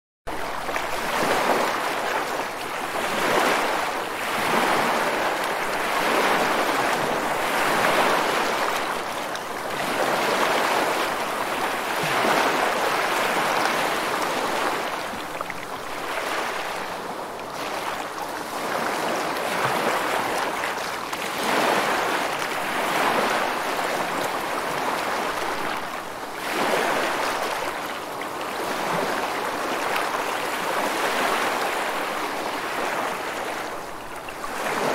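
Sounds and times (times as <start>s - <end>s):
sea waves washing in: 0.3s - 34.9s.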